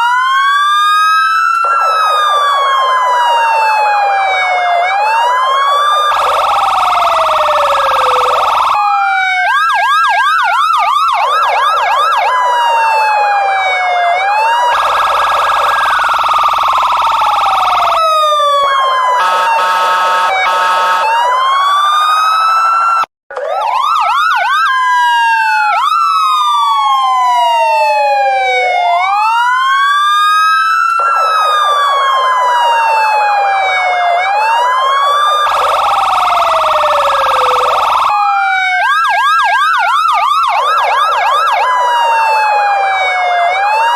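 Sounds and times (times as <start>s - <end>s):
police car sirens wailing and yelping: 0.0s - 43.9s.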